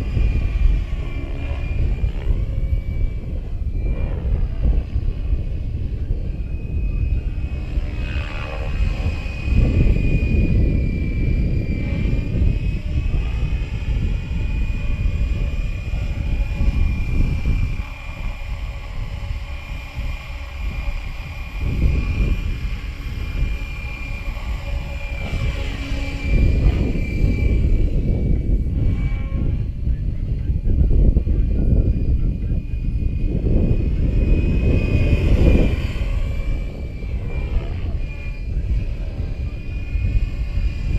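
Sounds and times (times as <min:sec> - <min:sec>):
rc helicopter motor whine: 0:00.0 - 0:40.9
wind buffeting microphone: 0:00.0 - 0:40.9.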